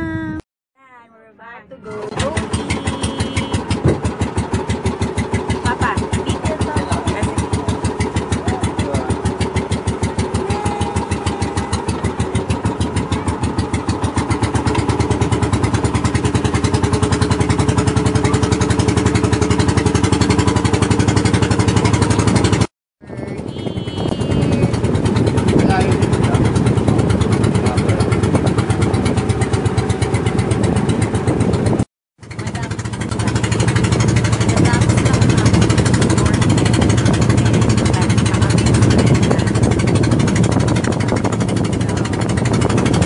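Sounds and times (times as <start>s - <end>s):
boat engine pulsing: 1.6s - 43.0s.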